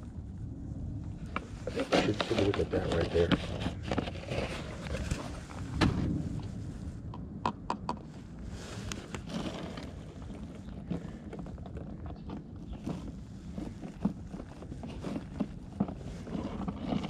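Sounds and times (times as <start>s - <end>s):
low rustle: 0.0s - 7.1s, 8.1s - 17.0s.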